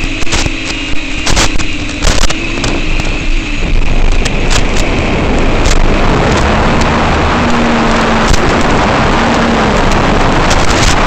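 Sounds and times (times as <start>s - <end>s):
wind and propeller noise: 0.0s - 11.0s.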